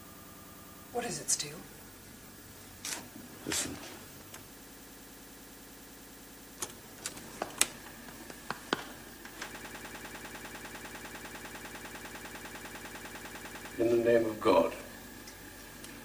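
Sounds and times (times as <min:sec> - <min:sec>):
tape playback hum with pulse: 0:00.0 - 0:16.0.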